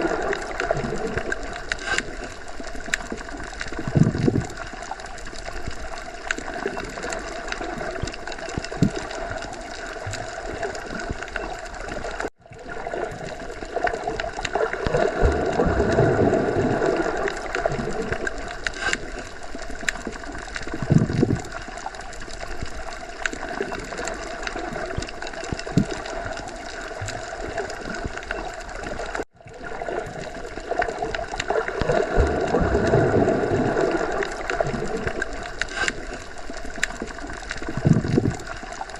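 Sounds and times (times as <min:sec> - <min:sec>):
underwater gurgling water wash: 0:00.0 - 0:38.9.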